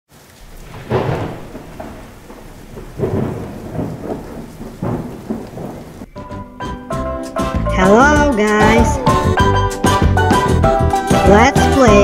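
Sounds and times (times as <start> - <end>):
steady rain: 0.1 - 12.0
thunder rumbling: 0.1 - 12.0
thunderclap: 0.1 - 12.0.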